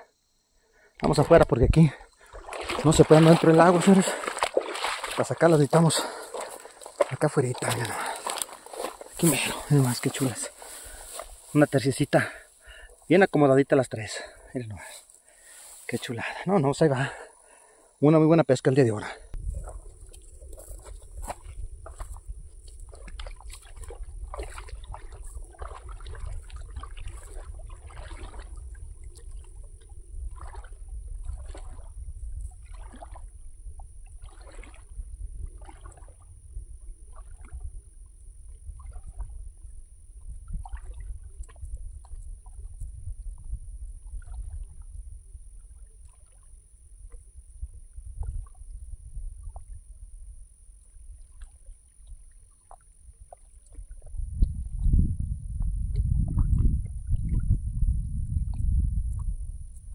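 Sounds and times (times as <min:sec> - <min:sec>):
water splashing and sloshing: 0:01.2 - 0:17.9, 0:19.3 - 0:50.0, 0:50.8 - 0:54.9, 0:55.5 - 0:59.9.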